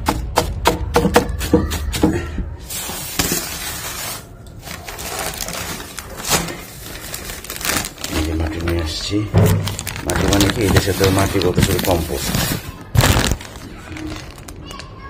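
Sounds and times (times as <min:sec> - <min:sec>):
plastic sheet crinkling: 0:02.7 - 0:15.0.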